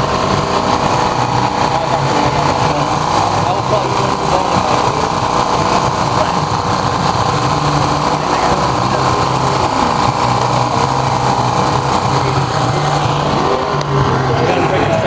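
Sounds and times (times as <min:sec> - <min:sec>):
small motor humming and whining: 0:00.0 - 0:15.0.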